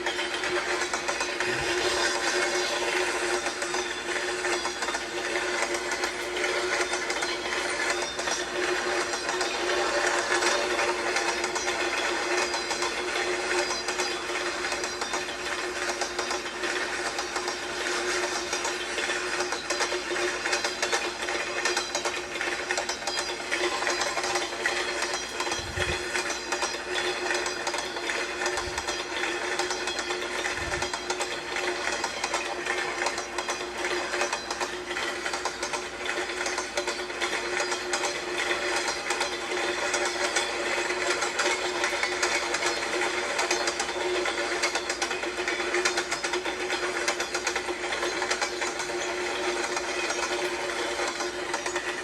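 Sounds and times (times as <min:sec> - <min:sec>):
train wheels clickety-clack: 0:00.0 - 0:52.0.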